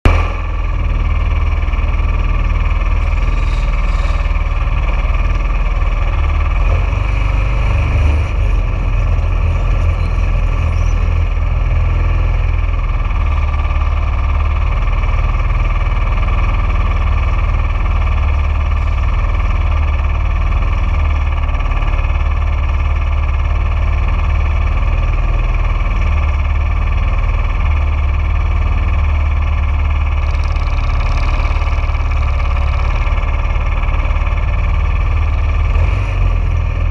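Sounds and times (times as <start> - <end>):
dragster engine idling: 0.0 - 36.9.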